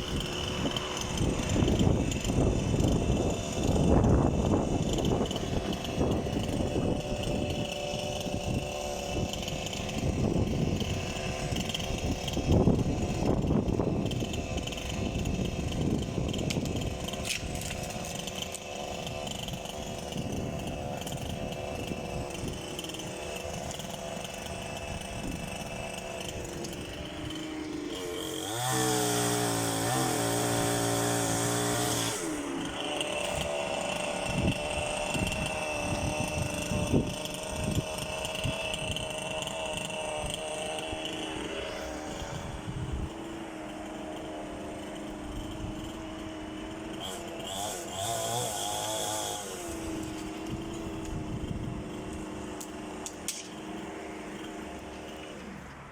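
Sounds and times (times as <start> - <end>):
chainsaw cutting limbs: 0.0 - 55.9.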